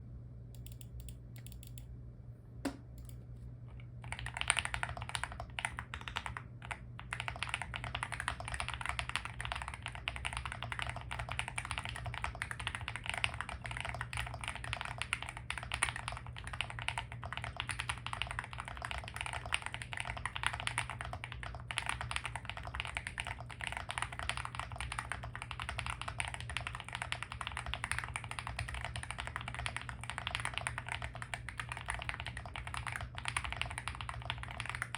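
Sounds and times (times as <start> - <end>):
fast typing on mechanical keyboard: 4.0 - 34.9.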